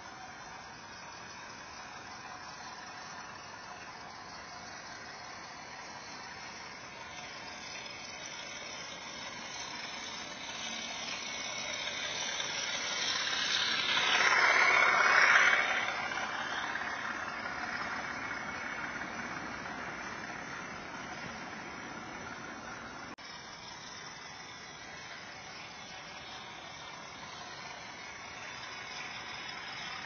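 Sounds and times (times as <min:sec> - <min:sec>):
model train motor whirring: 0:00.0 - 0:30.0
wheels running on rails: 0:00.0 - 0:30.0.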